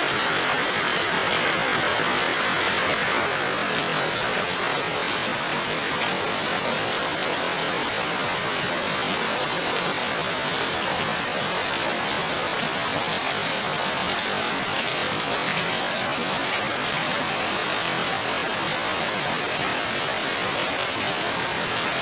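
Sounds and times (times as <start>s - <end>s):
heavy rain on foliage: 0.0s - 22.0s.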